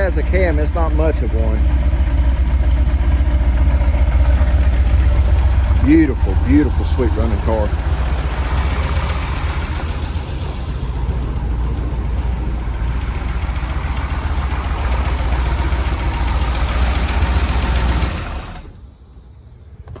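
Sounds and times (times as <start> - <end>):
engine idling: 0.0 - 19.4.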